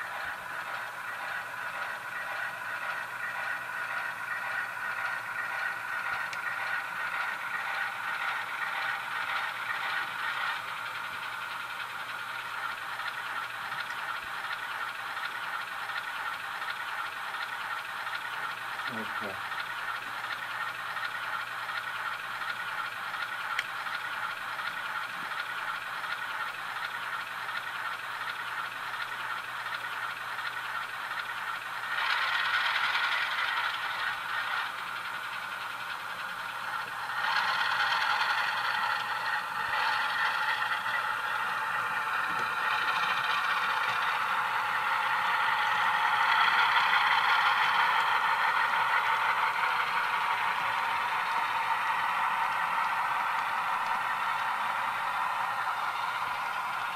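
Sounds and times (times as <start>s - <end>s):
model locomotive engine sound: 0.0s - 56.9s.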